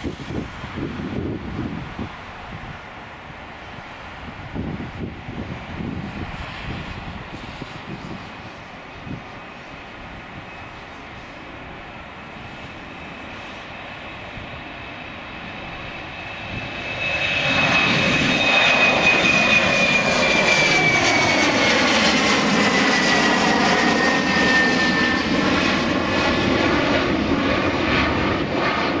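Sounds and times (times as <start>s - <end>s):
jet engines at take-off thrust: 0.0s - 29.0s.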